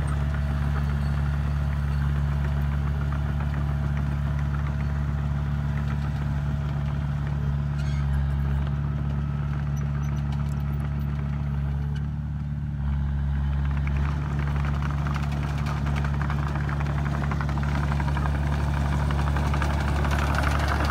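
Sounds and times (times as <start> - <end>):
bulldozer diesel engine running: 0.0 - 20.9.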